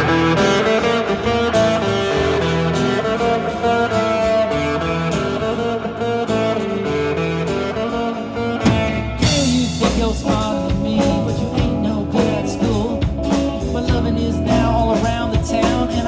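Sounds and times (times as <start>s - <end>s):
live band guitar instrumental: 0.0s - 16.0s
vocals: 0.0s - 16.0s.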